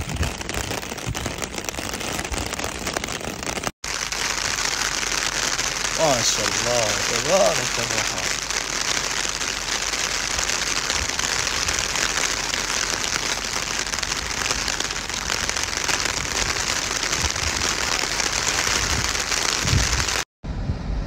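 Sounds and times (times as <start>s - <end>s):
rain falling on wet road: 0.0s - 20.2s.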